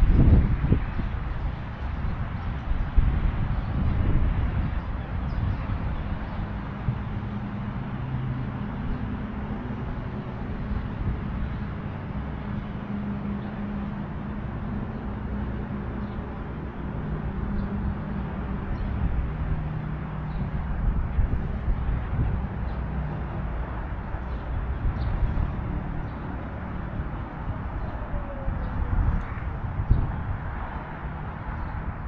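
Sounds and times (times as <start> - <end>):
traffic engines humming: 0.0 - 32.0.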